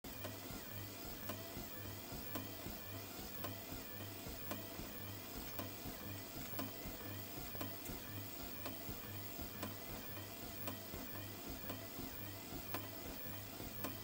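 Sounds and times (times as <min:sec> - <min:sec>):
treadmill motor whine: 0:00.0 - 0:14.0
footfall thumps on treadmill belt: 0:01.0 - 0:14.0.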